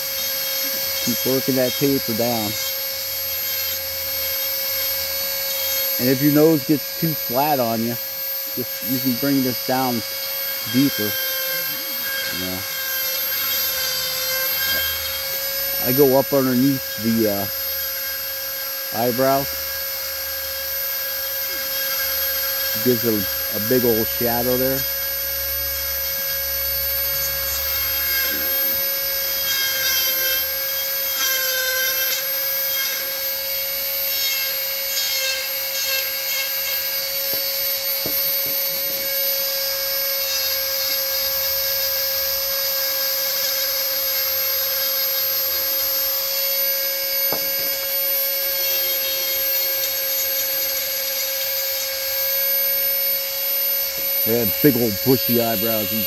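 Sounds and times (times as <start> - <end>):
rotary tool grinding wood: 0.0 - 56.0.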